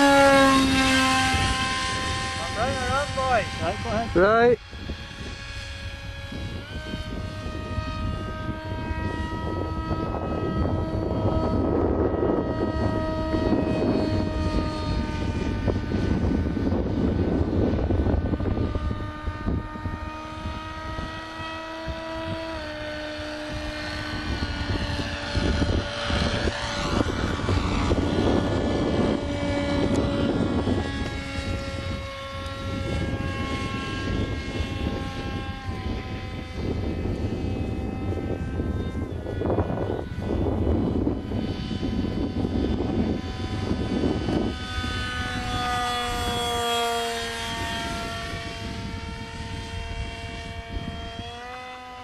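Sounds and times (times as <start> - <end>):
model jet motor whine: 0.0 - 52.0.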